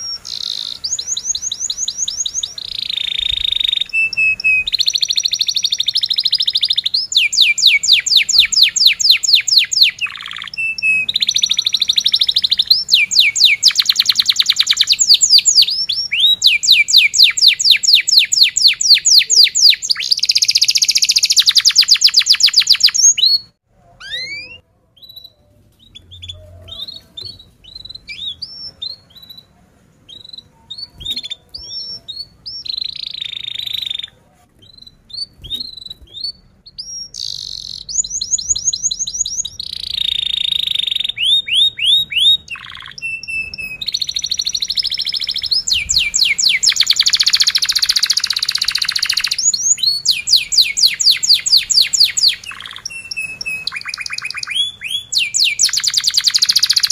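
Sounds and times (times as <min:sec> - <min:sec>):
canary singing: 0:00.0 - 0:56.9.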